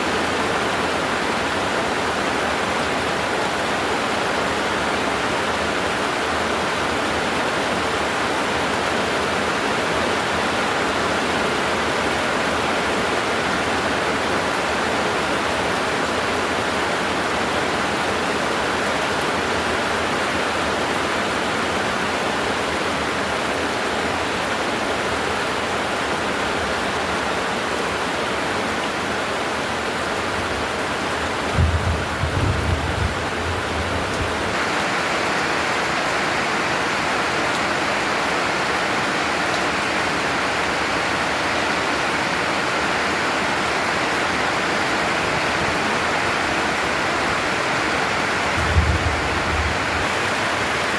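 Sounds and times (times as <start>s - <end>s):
very heavy rain pouring: 0.0s - 50.9s.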